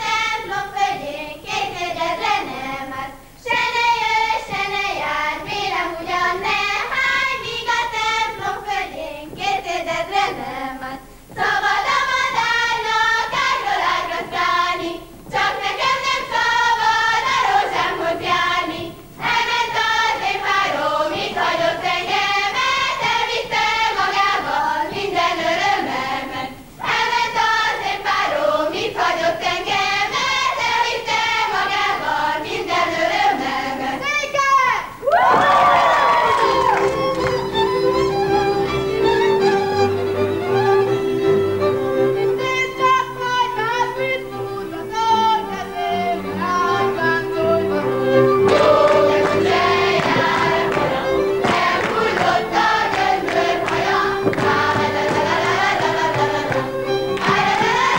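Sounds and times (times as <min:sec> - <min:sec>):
women singing folk song: 0:00.0 - 0:34.3, 0:41.8 - 0:57.9.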